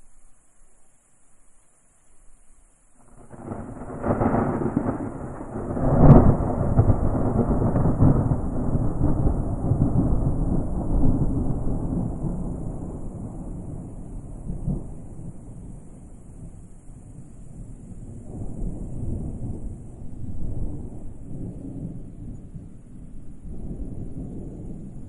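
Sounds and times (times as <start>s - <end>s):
crickets chirping: 0.0s - 25.0s
thunder rumbling and cracking: 3.0s - 25.0s.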